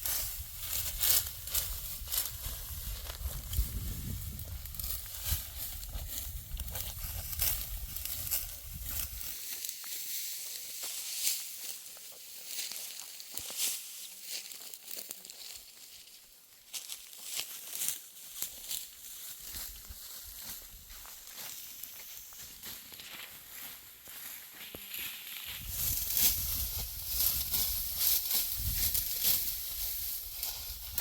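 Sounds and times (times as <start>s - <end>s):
dry wheat stalks crackling: 0.0s - 31.0s.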